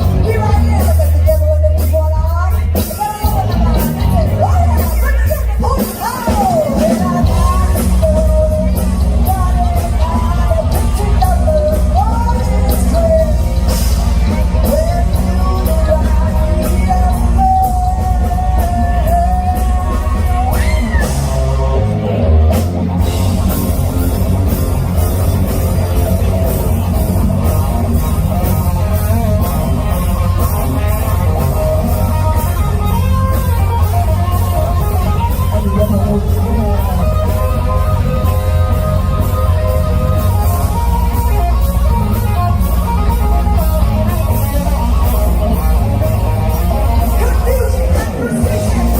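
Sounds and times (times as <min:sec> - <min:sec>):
lead guitar line with bending notes: 0:00.0 - 0:48.9
live rock band playing: 0:00.0 - 0:48.9.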